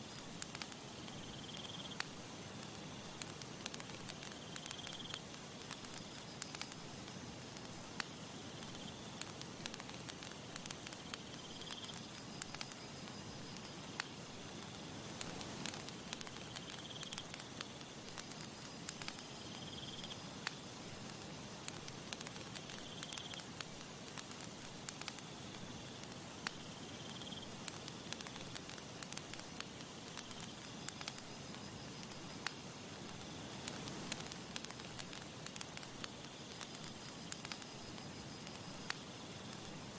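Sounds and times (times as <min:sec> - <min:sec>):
campfire crackling and popping: 0:00.0 - 0:39.9
soft steady hiss: 0:00.0 - 0:39.9.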